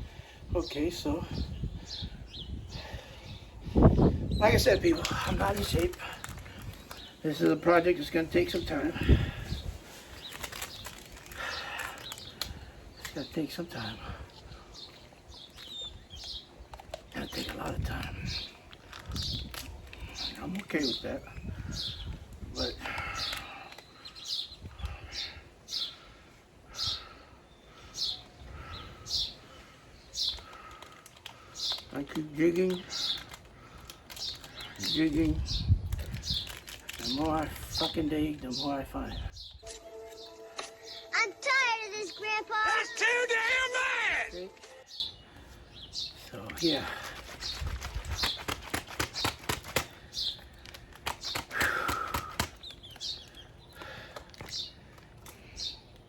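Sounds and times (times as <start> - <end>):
bird chirping: 0.6 - 43.7, 44.4 - 56.0.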